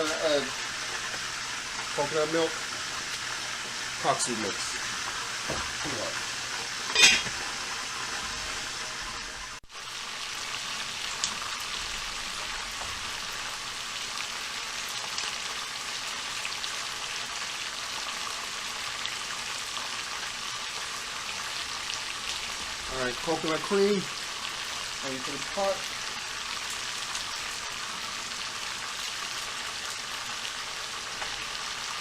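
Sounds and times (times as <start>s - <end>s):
hot oil sizzling: 0.0s - 32.0s.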